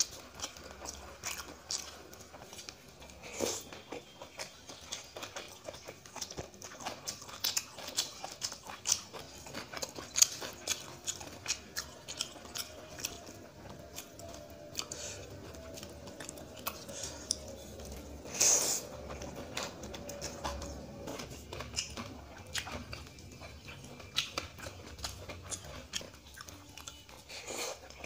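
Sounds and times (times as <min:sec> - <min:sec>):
person chewing with mouth clicks: 0:00.0 - 0:28.0.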